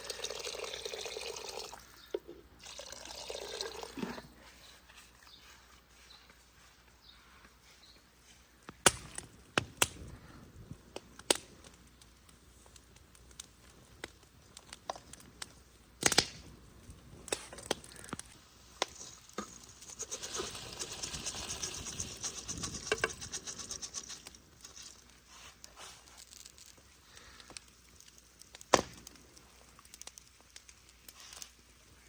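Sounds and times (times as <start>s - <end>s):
crackling rustling noise: 4.2s - 32.0s.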